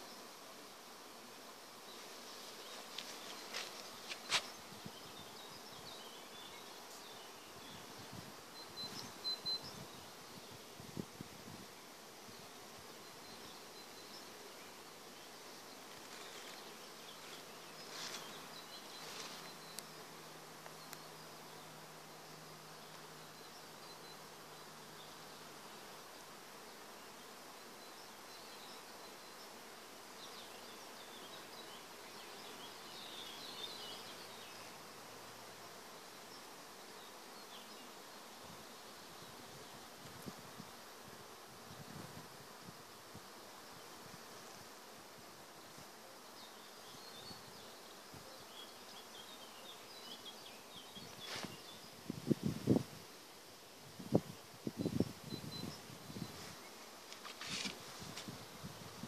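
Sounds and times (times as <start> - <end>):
bees buzzing: 0.0 - 59.0
honeybees humming: 0.0 - 59.0.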